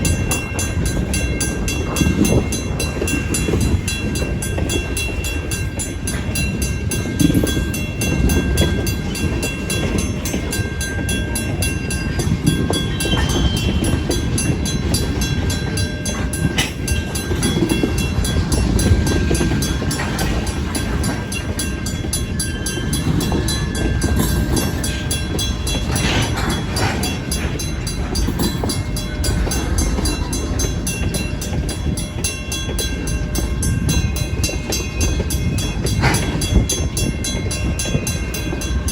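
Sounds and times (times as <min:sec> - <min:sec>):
crossing bell ringing: 0:00.0 - 0:38.9
train wheels rumbling over rails: 0:00.0 - 0:38.9
wheels screeching on rail: 0:00.0 - 0:38.9.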